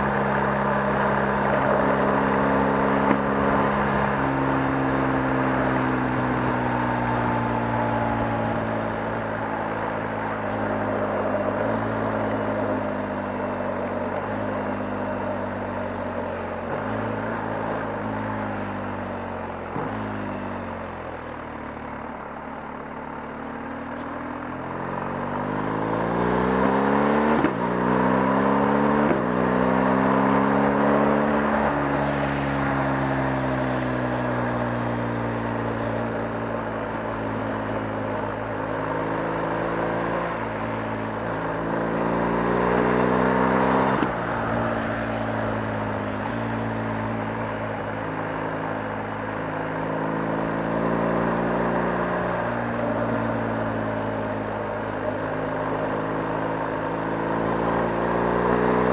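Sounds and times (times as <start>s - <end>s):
motorcycle engine revving and shifting: 0.0s - 58.9s.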